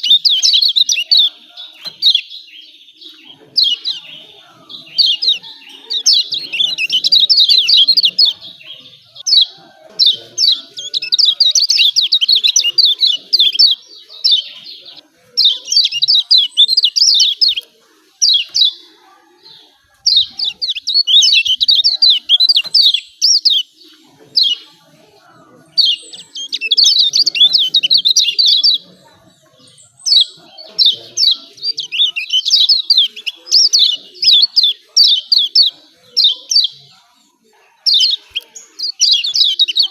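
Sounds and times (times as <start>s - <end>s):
bird rapid chattering song: 0.0s - 39.9s.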